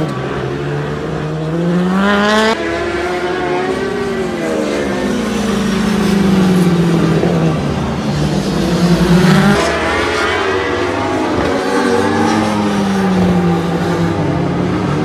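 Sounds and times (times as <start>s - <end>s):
racing motorcycle engines passing: 0.0s - 15.0s.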